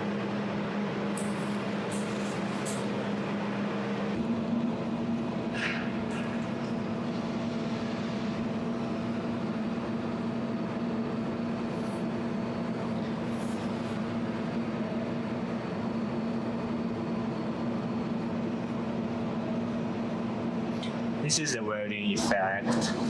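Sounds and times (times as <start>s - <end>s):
welding machine humming: 0.0s - 23.0s.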